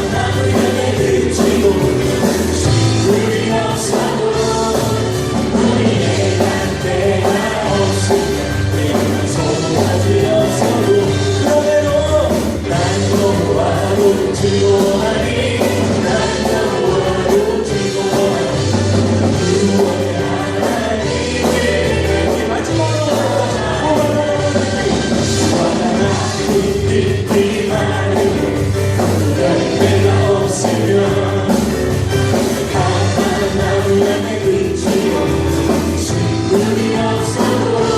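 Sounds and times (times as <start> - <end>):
band with bass and drums: 0.0 - 37.9
people singing worship song: 0.0 - 37.9.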